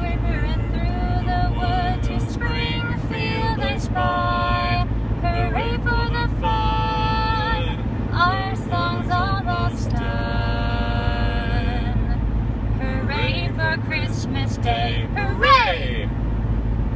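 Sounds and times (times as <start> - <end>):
woman singing: 0.0 - 12.1, 12.8 - 15.8
car cabin road rumble: 0.0 - 16.9.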